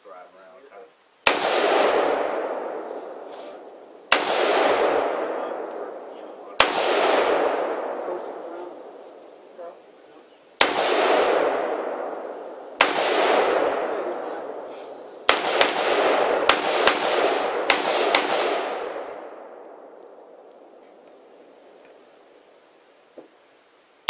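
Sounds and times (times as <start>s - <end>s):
rifle shots with rolling echo: 1.2s - 22.6s.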